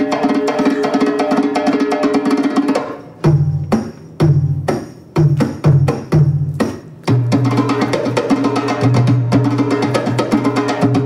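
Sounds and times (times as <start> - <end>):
hand drum solo: 0.0 - 11.0.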